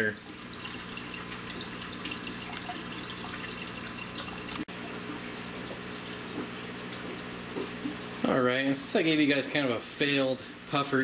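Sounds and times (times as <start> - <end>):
aquarium filter water trickling: 0.0 - 11.0.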